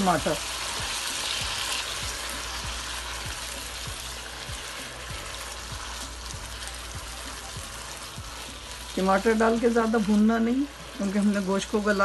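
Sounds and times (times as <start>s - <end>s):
background music drum beat: 0.0s - 11.0s
tomatoes sizzling in hot oil: 0.0s - 12.0s.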